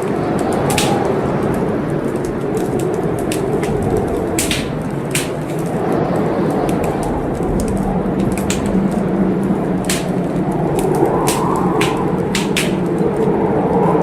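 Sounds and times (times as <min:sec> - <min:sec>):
steady rushing noise: 0:00.0 - 0:14.0
wood fire crackling: 0:00.0 - 0:14.0.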